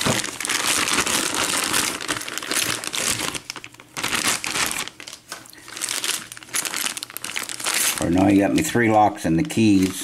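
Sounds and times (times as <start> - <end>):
packing material crinkling: 0.0 - 10.0.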